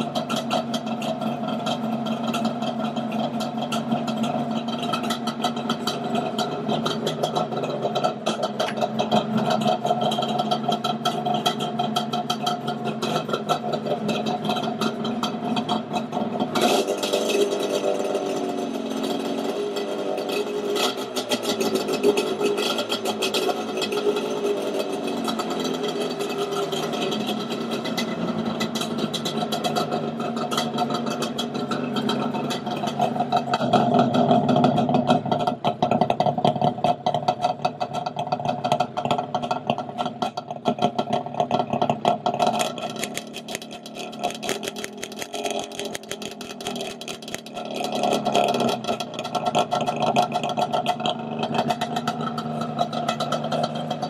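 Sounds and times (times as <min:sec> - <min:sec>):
two-stroke engine running: 0:00.0 - 0:54.0.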